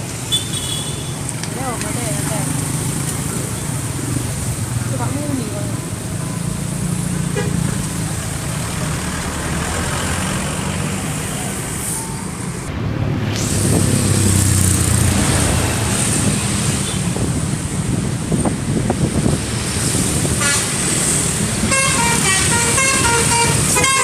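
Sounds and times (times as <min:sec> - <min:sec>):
bus and truck engines droning: 0:01.2 - 0:24.0.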